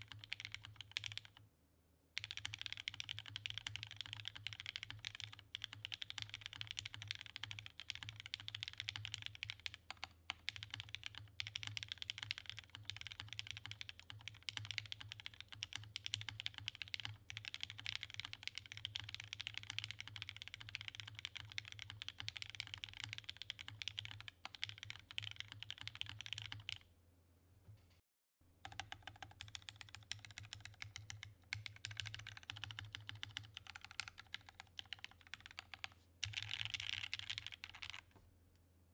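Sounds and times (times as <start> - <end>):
mechanical keyboard typing: 0.0 - 1.4, 2.2 - 26.8, 28.6 - 38.1.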